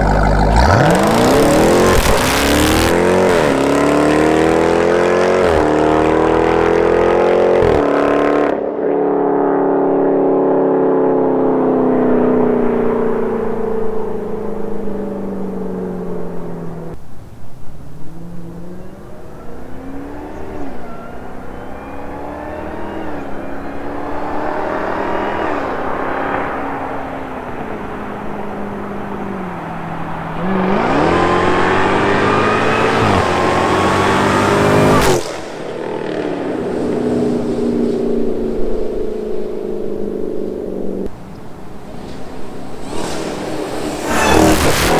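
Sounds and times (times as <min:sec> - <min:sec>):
exhaust crack: 0:00.0 - 0:07.8, 0:10.2 - 0:44.9
car engine accelerating: 0:00.0 - 0:44.9.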